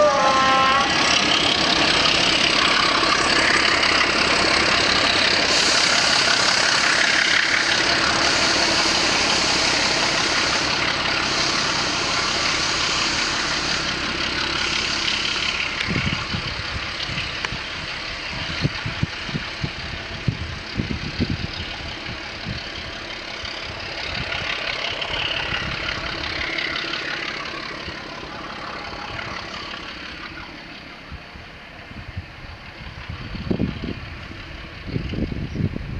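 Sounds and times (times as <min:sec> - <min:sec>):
diesel locomotive engines: 0:00.0 - 0:35.9.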